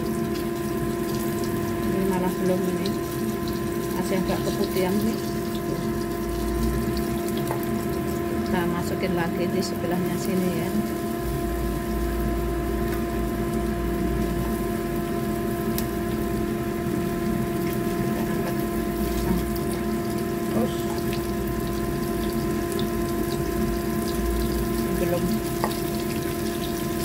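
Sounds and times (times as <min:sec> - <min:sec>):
oil popping and crackling: 0:00.0 - 0:09.0, 0:09.6 - 0:27.0
fish sizzling in hot oil: 0:00.0 - 0:27.0
steady low hum: 0:00.0 - 0:27.0.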